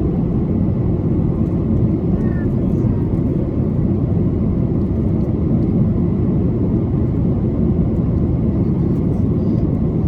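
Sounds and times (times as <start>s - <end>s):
airliner cabin roar: 0.0s - 10.0s.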